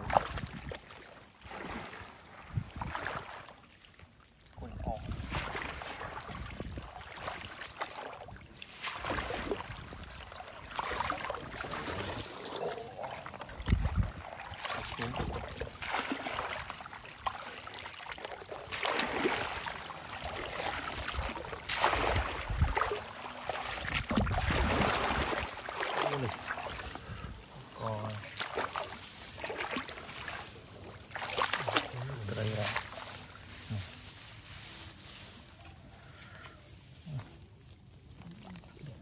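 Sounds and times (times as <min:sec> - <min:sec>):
water sloshing and splashing: 0:00.0 - 0:35.8, 0:36.7 - 0:39.0.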